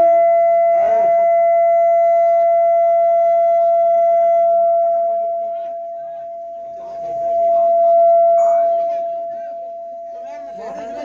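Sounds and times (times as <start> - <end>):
microphone feedback howl: 0.0 - 11.0.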